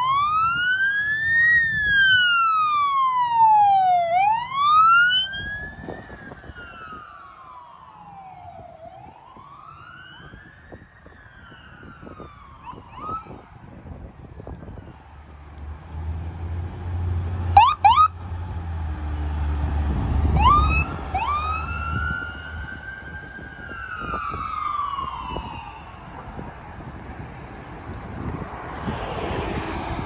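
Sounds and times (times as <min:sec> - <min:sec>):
emergency vehicle wail siren: 0:00.0 - 0:30.0.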